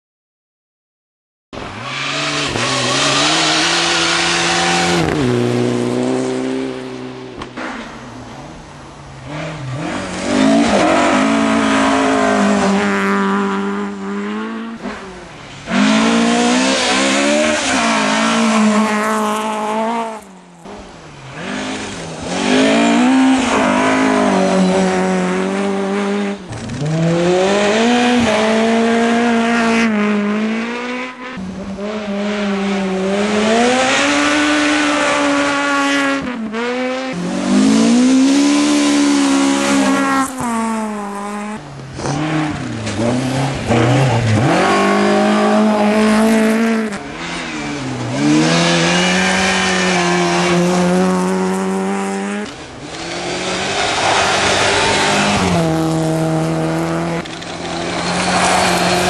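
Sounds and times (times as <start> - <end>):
rally car engines revving: 1.6 - 59.0.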